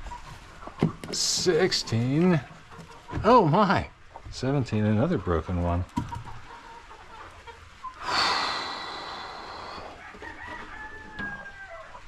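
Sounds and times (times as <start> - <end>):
chickens calling: 0.0 - 12.0.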